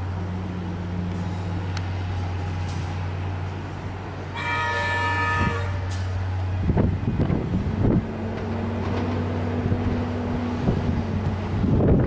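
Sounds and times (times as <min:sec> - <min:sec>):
train low hum: 0:00.0 - 0:12.0
train motor whine: 0:01.0 - 0:10.9.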